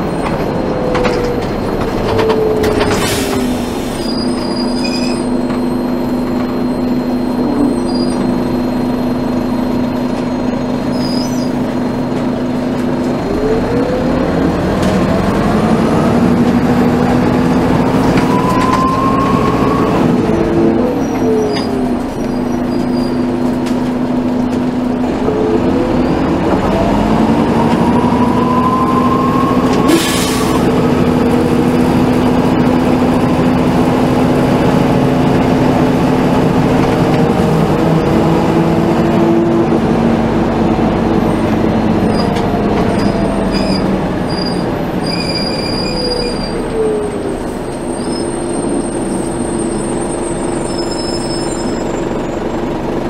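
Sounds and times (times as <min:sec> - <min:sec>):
bus diesel engine: 0:00.0 - 0:53.0
drivetrain whine: 0:00.0 - 0:53.0.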